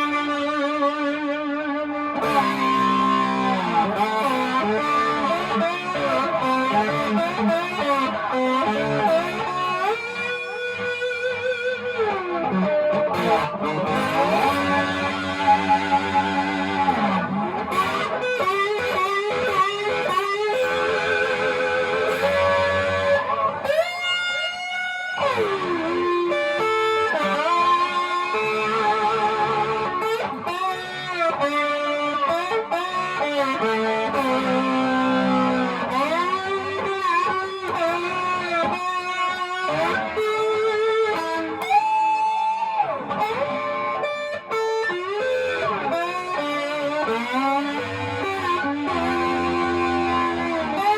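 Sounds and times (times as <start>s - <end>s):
electric slide guitar: 0.0s - 50.9s.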